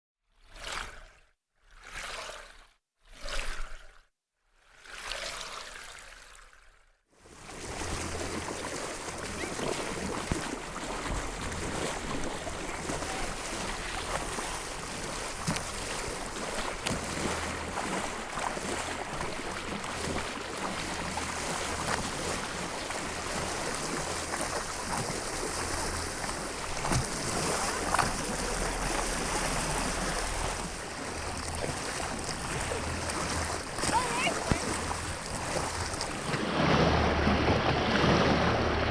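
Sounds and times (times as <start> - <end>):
wind: 0.3 - 38.9
rushing water: 4.7 - 6.7, 7.3 - 38.9.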